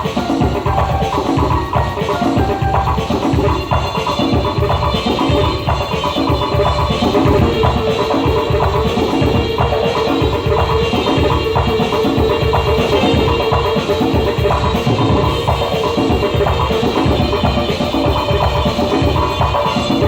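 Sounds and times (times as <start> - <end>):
band playing: 0.0 - 20.0
drum kit steady beat: 0.0 - 20.0.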